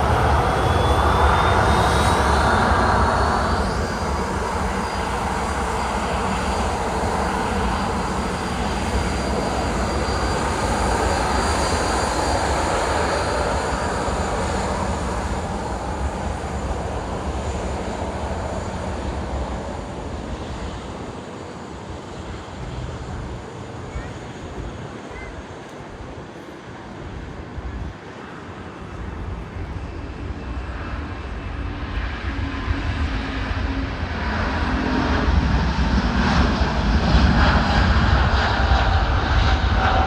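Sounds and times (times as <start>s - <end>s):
jet airliner engine rush: 0.0s - 40.0s.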